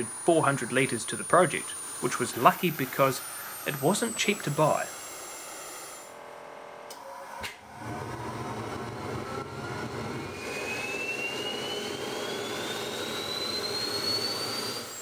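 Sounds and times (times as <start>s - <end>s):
turbine engine rushing and whining: 0.0s - 6.2s, 7.6s - 15.0s.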